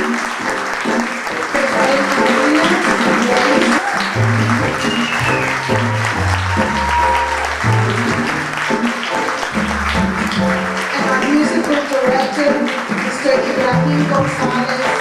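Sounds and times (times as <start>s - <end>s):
audience applause: 0.0s - 15.0s
piano bass and percussion music: 0.0s - 15.0s.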